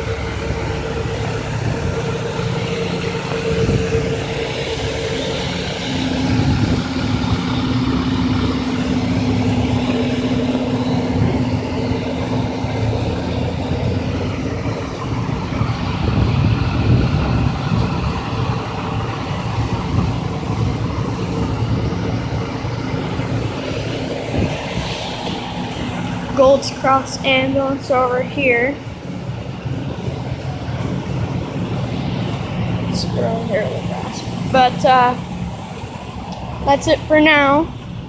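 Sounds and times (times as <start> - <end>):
low hum: 0.0 - 38.0
street traffic: 0.0 - 38.0
vehicle engines running: 0.0 - 38.0.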